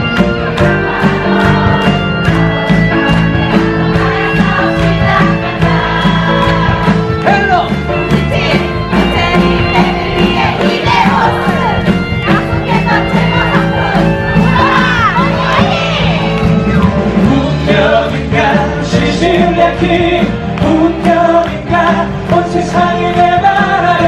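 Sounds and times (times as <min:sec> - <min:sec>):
live band music with steady beat: 0:00.0 - 0:24.0.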